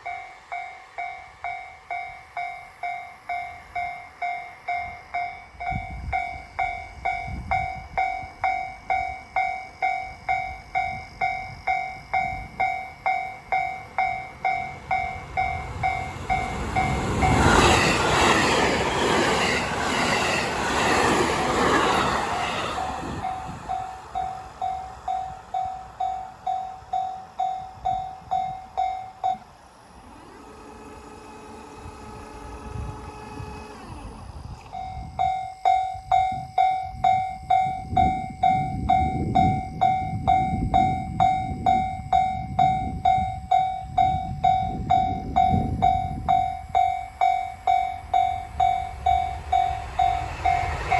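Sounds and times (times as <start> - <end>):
level crossing warning bell: 0.0 - 18.6, 22.4 - 29.6, 34.6 - 50.9
train rushing past: 0.0 - 50.9.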